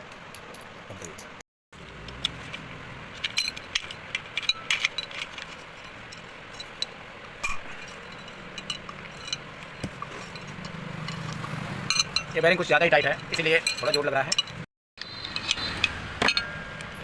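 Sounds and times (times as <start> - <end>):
metal tools clinking: 2.3 - 14.7, 15.3 - 16.9.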